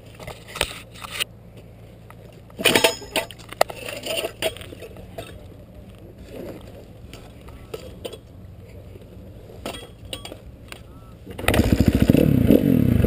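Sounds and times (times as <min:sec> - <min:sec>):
rustling clatter: 0:00.0 - 0:12.2
faint low hum: 0:00.0 - 0:13.0.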